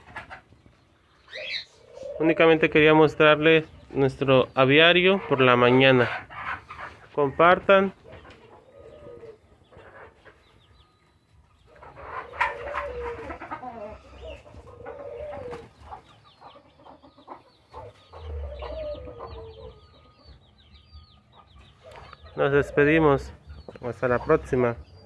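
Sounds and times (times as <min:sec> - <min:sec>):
wavering bird calls: 0:00.0 - 0:25.0.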